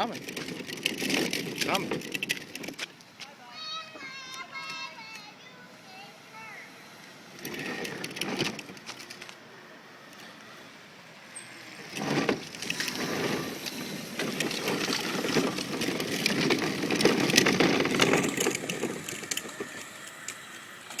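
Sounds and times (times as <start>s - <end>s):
electric motorcycle rolling past: 0.0s - 2.9s, 3.7s - 21.0s
tyres crunching on street: 0.0s - 5.7s, 6.4s - 21.0s.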